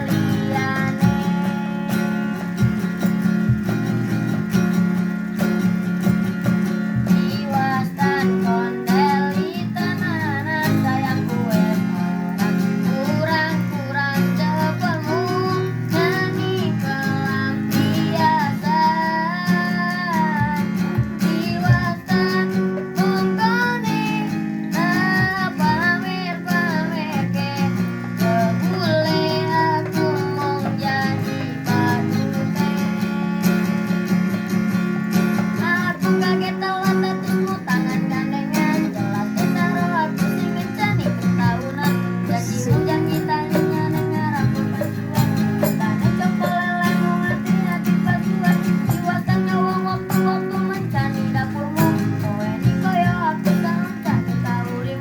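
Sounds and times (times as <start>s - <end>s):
child singing: 0.0s - 3.2s, 6.6s - 34.1s, 35.3s - 55.0s
strummed acoustic guitar: 0.0s - 55.0s.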